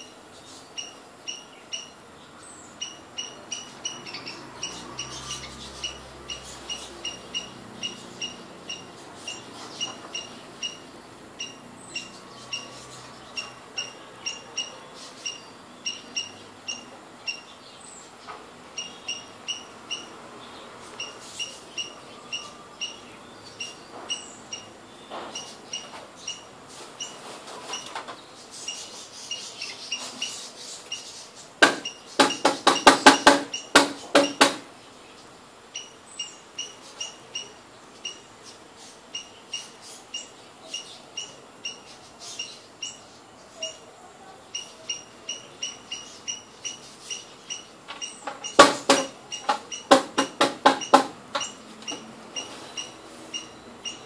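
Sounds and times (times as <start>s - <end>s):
small bird chirping: 0.0s - 54.0s
harsh rapid bird pulses: 2.7s - 43.8s, 44.5s - 54.0s.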